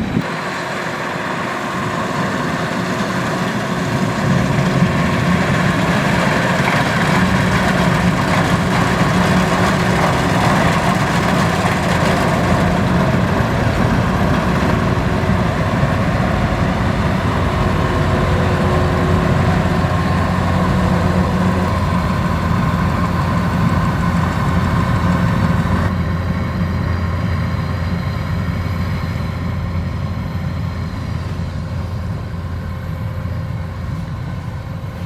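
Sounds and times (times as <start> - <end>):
combine harvester diesel engine: 0.0 - 35.0.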